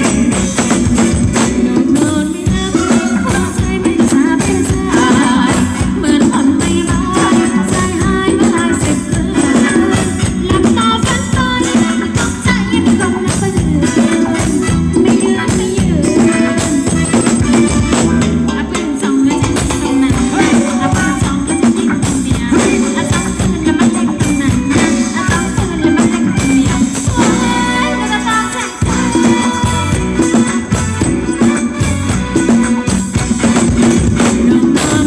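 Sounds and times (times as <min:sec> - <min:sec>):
person singing: 0:00.0 - 0:31.8, 0:34.2 - 0:35.0
live dance band music: 0:00.0 - 0:35.0
shaken percussion: 0:00.0 - 0:35.0.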